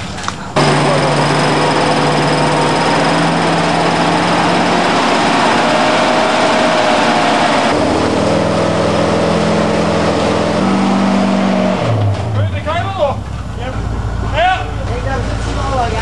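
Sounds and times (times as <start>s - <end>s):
engine running under load: 0.6s - 16.0s.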